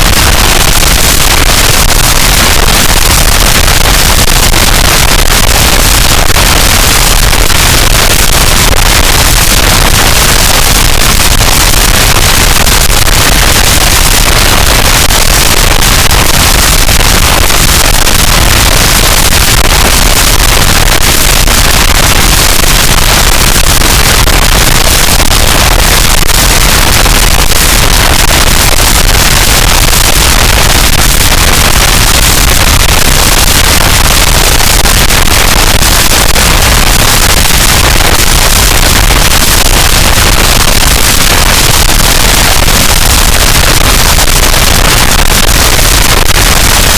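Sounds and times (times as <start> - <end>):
distorted static noise wall: 0.0 - 46.9.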